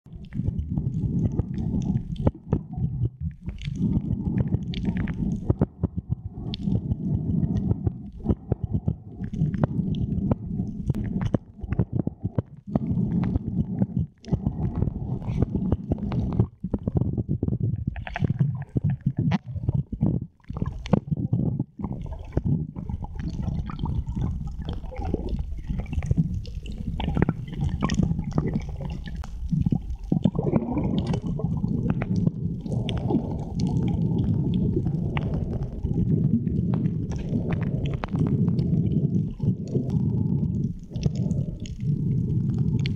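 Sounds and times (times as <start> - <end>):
gurgling underwater rumble: 0.0 - 42.9
sharp underwater clicks: 0.1 - 42.9.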